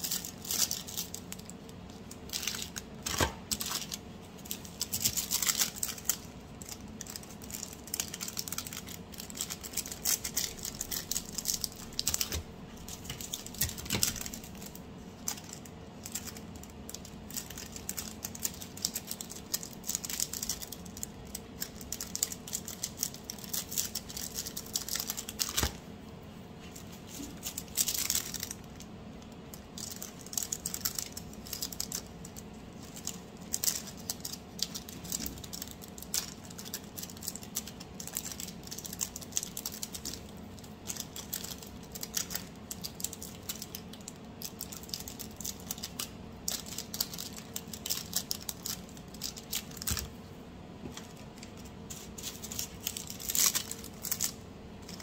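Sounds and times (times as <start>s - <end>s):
plastic bags crinkling: 0.0s - 25.8s, 26.7s - 50.2s, 50.9s - 55.0s.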